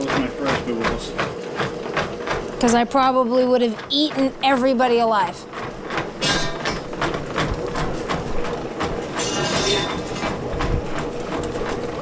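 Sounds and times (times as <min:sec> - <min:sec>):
steady motor hum: 0:00.0 - 0:12.0.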